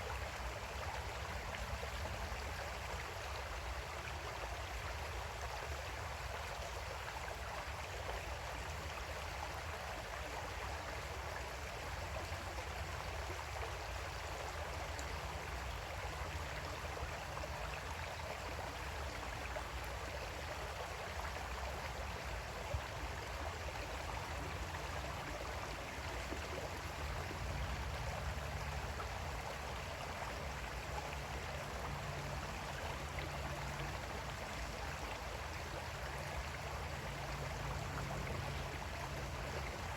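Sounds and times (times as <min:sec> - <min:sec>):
creek water rushing and babbling: 0:00.0 - 0:39.9.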